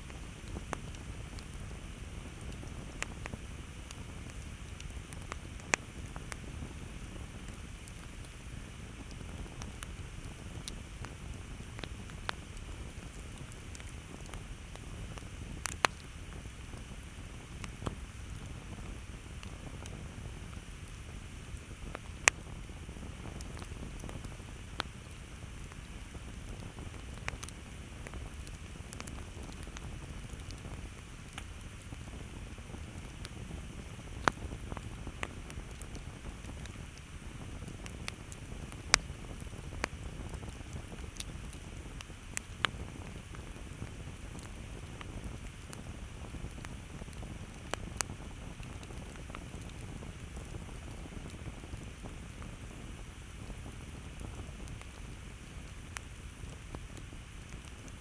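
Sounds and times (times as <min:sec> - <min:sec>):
campfire crackling: 0:00.0 - 0:58.0
low hiss of burning wood: 0:00.0 - 0:58.0.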